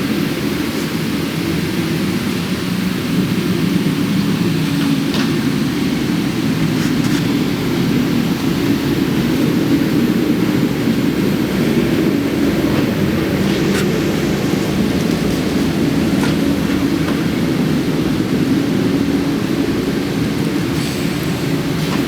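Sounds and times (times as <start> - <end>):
low machine drone: 0.0 - 22.0.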